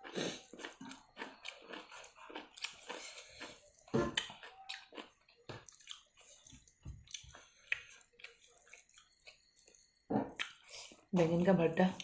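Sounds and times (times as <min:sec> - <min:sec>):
wet chewing and lip-smacking: 0:00.0 - 0:11.1.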